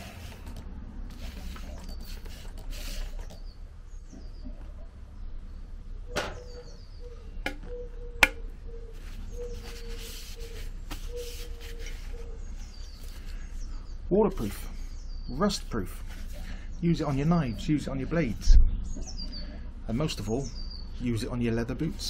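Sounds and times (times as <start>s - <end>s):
birds chirping: 1.1s - 22.0s.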